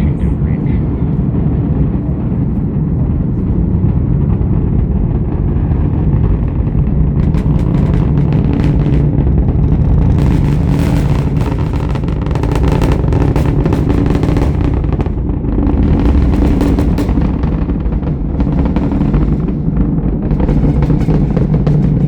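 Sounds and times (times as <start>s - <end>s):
rocket engines roaring: 0.0s - 22.0s.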